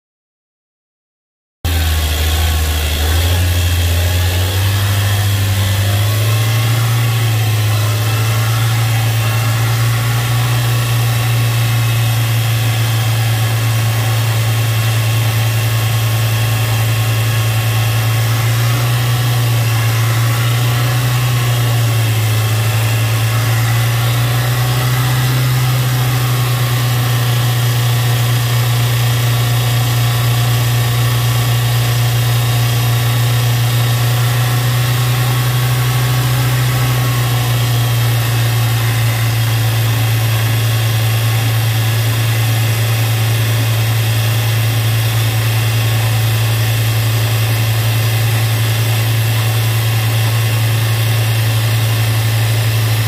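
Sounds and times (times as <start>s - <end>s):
car engine running: 1.7s - 53.0s.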